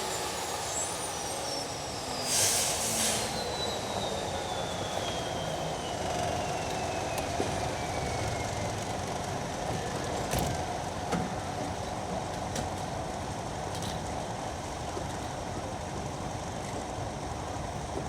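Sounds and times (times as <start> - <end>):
turboprop engine rumble and whine: 0.0 - 18.0.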